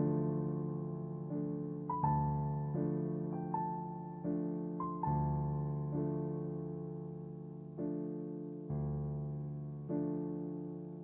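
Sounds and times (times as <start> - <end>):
soft slow piano music: 0.0 - 11.0.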